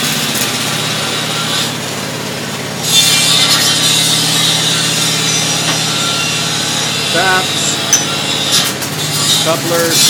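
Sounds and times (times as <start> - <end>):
bandsaw cutting steel: 0.0 - 10.0
bandsaw motor hum: 0.0 - 10.0.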